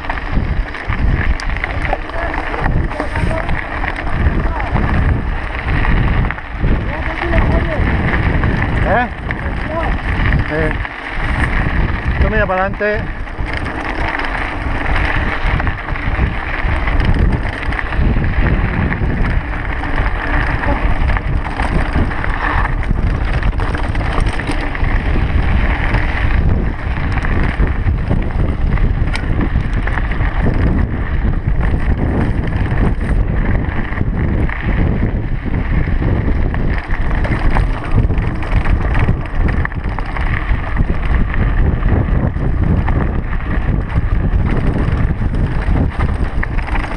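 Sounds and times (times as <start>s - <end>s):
bike rattling: 0.0s - 46.9s
tyres crunching on stony trail: 0.0s - 46.9s
wind buffeting microphone: 0.0s - 46.9s.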